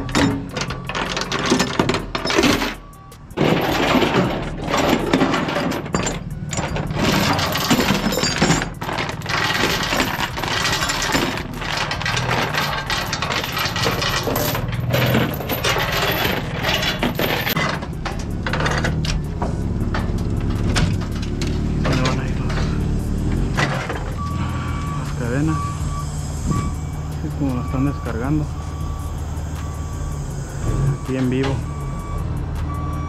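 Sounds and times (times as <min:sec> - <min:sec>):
chain clanking on metal deck: 0:00.0 - 0:29.0.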